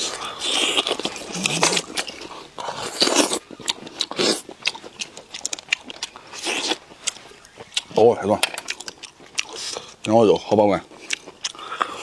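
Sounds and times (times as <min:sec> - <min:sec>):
chewing and wet smacking: 0:00.0 - 0:12.0.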